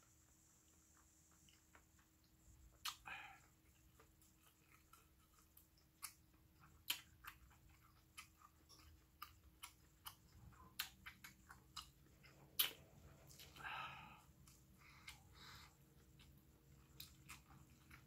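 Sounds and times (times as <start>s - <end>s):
person chewing wetly: 0.7s - 18.0s.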